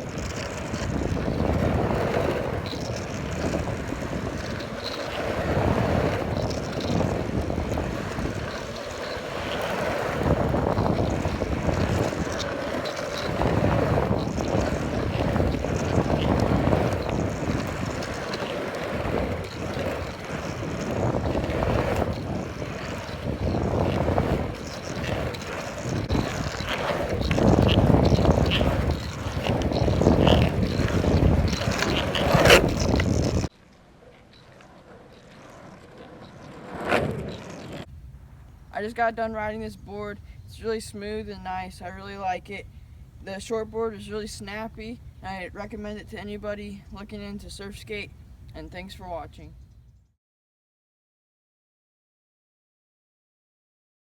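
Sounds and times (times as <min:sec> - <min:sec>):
skateboard wheels rolling on pavement: 0:00.0 - 0:50.1.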